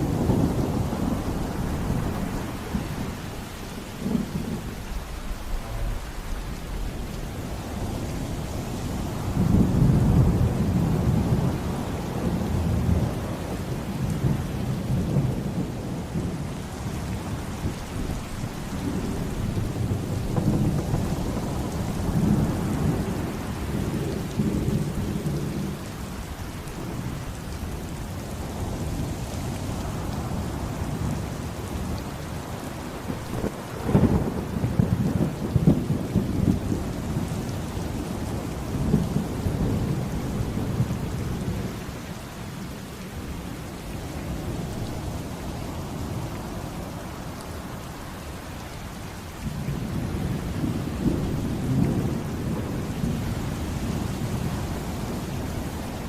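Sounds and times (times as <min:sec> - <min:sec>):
thunder rumbling: 0:00.0 - 0:31.8, 0:32.6 - 0:48.4, 0:49.4 - 0:56.0
heavy rain: 0:00.0 - 0:56.0.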